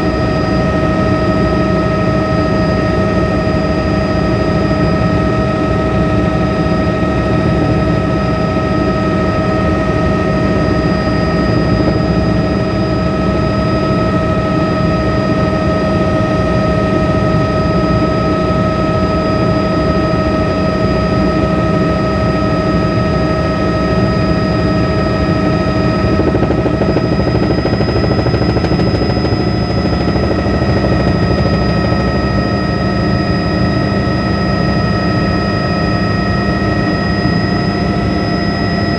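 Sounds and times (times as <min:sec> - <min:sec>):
helicopter rotor rumble: 0:00.0 - 0:38.9
high turbine whine: 0:00.0 - 0:38.9.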